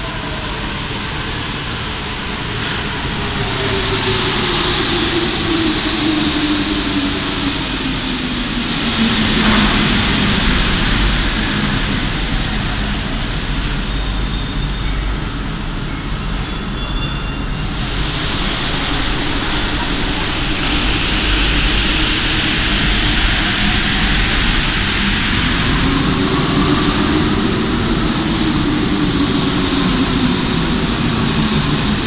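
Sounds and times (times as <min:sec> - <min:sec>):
metro train braking: 0:00.0 - 0:32.0
train rumbling at platform: 0:00.0 - 0:32.0.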